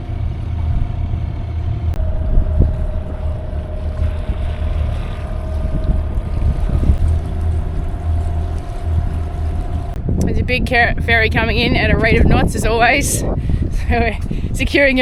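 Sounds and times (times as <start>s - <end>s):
steady engine hum: 0.0s - 15.0s
wind and water rumble: 0.0s - 15.0s.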